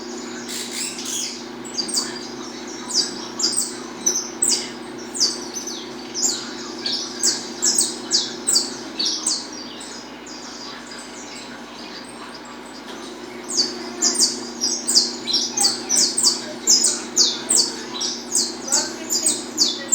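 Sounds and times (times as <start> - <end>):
finch singing sharp falling notes: 0.4 - 19.9.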